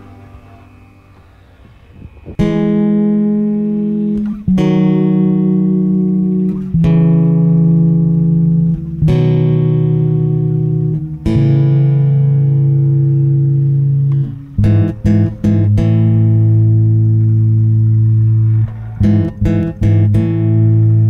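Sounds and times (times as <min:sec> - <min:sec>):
guitar chords ringing: 0:00.0 - 0:21.0.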